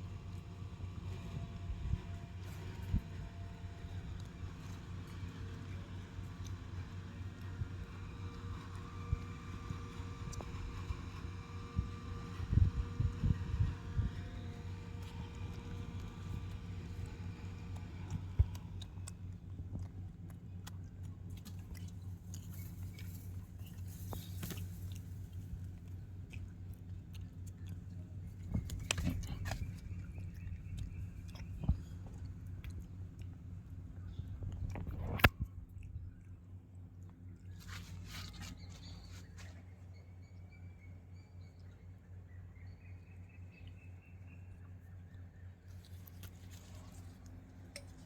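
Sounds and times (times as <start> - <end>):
steady low hum: 0.0 - 48.0
monkey chewing and biting food: 0.1 - 39.4, 45.6 - 48.0.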